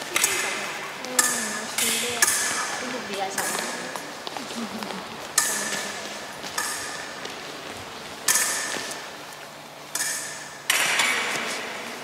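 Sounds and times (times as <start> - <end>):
fencing blades clashing: 0.0 - 4.4, 5.0 - 12.0.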